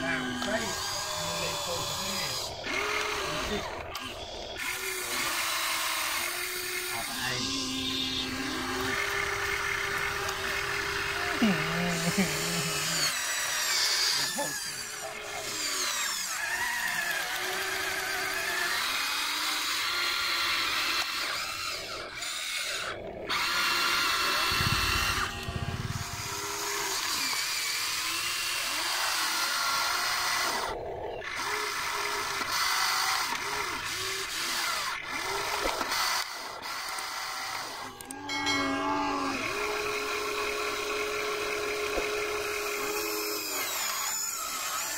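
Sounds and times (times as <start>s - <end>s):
electric motors whirring: 0.0s - 44.9s.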